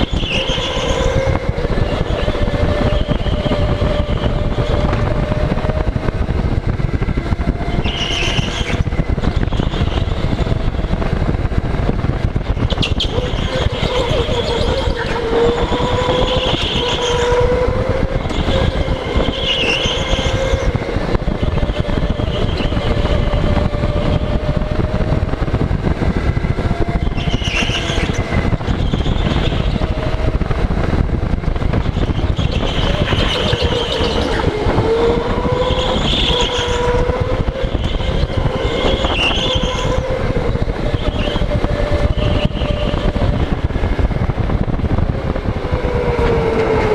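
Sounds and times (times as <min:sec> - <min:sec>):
chassis rumble and wind: 0:00.0 - 0:46.9
electric motor whining: 0:00.0 - 0:46.9.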